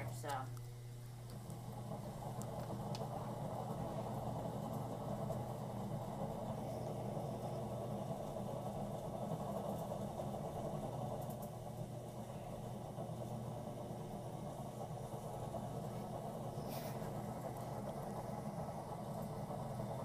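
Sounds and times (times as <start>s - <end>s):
potter's wheel motor hum: 0.0s - 20.0s.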